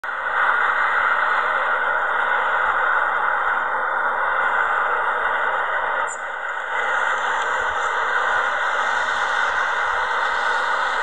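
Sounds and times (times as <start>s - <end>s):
jet engines roaring: 0.1s - 11.0s.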